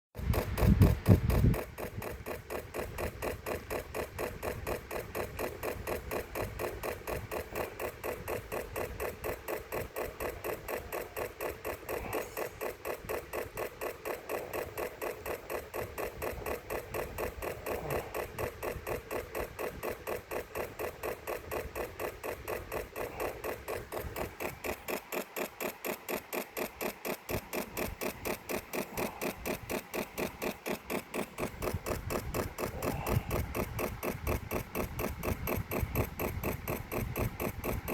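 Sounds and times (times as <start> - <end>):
computer rhythmic clicking: 0.2 - 37.9.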